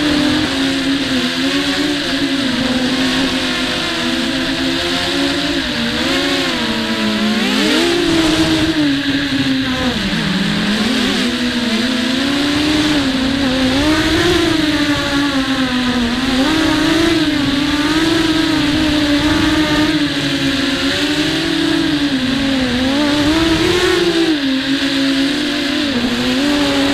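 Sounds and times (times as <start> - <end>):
drone motors buzzing whine: 0.0 - 26.9
wind rumble on microphone: 0.0 - 26.9.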